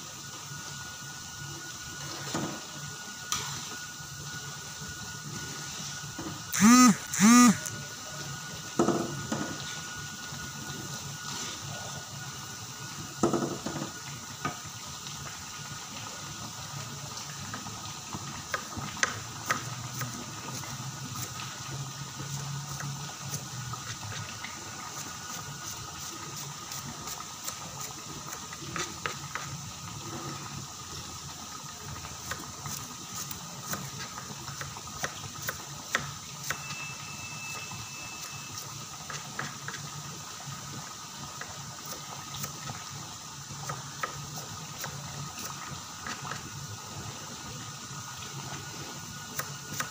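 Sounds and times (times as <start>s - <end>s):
onions deep-frying in oil: 0.0s - 6.6s, 8.2s - 49.9s.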